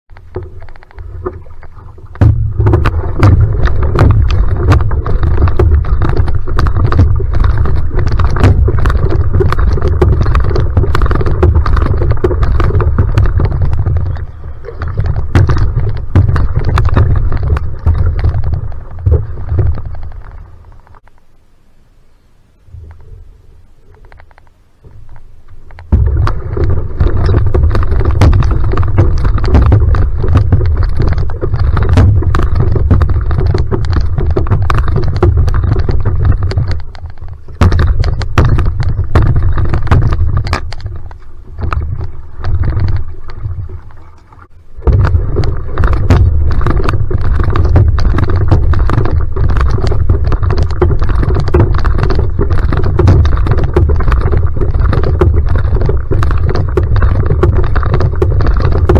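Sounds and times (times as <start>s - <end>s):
paddle strokes splashing: 0.1s - 21.0s, 23.8s - 58.9s
water rushing and splashing: 0.1s - 21.0s, 23.9s - 58.9s
heavy low rumble: 0.5s - 58.9s.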